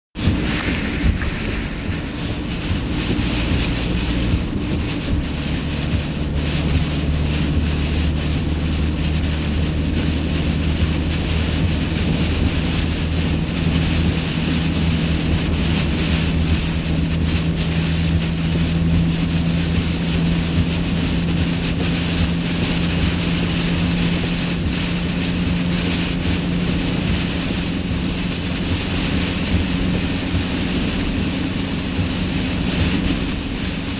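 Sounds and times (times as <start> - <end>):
rain hiss and tyre spray: 0.1 - 33.9
wind: 0.1 - 33.9
vehicle driving drone: 0.2 - 33.9.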